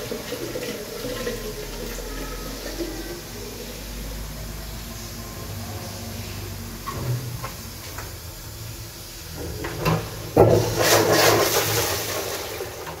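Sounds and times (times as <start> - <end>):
toilet flushing water gushing: 0.0 - 13.0.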